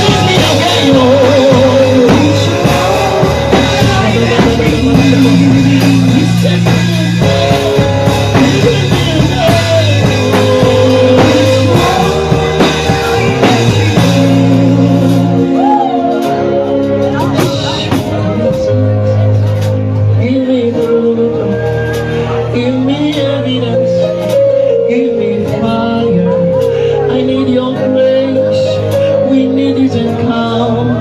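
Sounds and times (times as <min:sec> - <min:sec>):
instrumental gospel band: 0:00.0 - 0:31.0.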